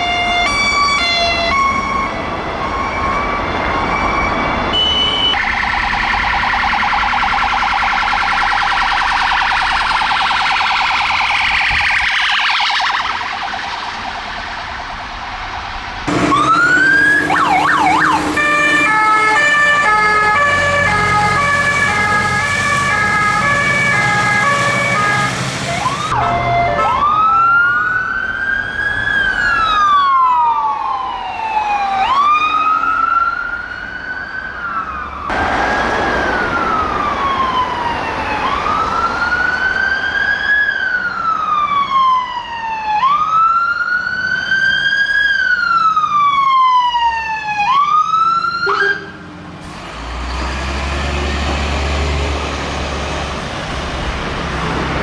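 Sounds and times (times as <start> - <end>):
ambulance siren cycling: 0.0 - 49.4
police siren wailing: 0.0 - 49.4
fire engine siren: 0.0 - 55.0.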